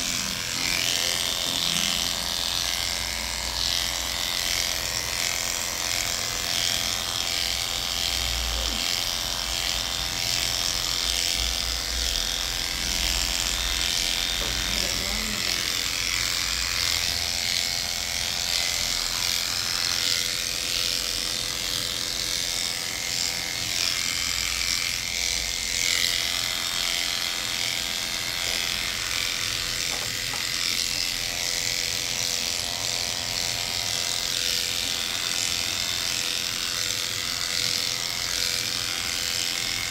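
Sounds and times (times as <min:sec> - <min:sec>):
electric clipper buzzing: 0:00.0 - 0:39.9.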